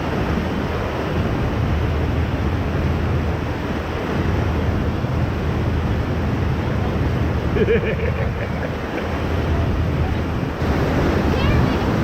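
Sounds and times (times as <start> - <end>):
whitewater rushing: 0.0 - 12.0
wind buffeting microphone: 0.0 - 12.0.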